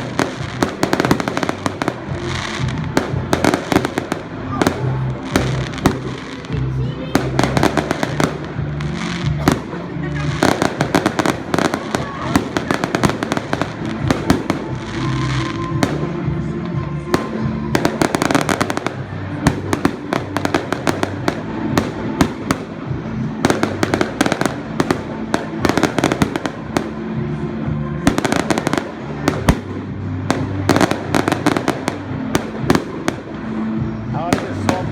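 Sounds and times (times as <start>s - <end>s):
fireworks bangs and crackles: 0.0s - 34.9s
music playing: 0.0s - 34.9s.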